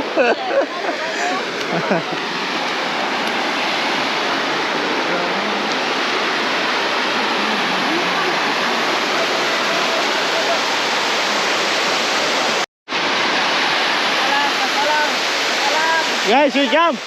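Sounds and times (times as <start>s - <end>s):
water pouring over a dam: 1.6s - 17.0s.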